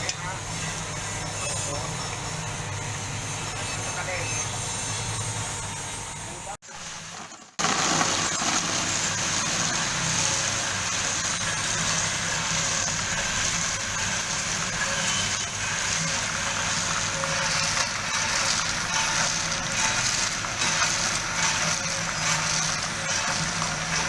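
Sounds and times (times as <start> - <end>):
roasting machine rushing: 0.0 - 24.0.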